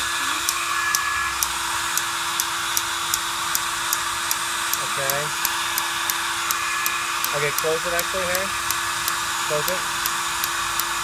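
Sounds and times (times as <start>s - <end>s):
gas hissing through engine: 0.0s - 11.0s.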